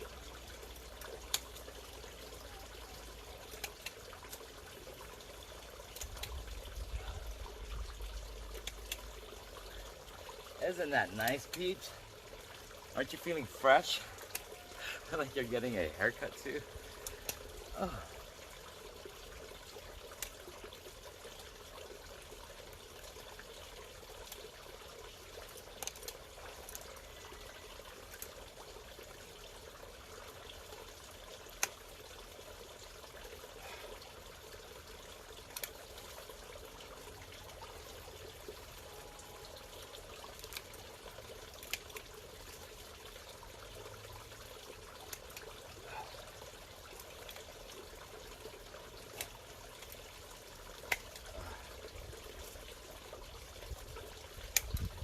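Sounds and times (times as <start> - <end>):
bubbling trickling water: 0.0 - 55.0.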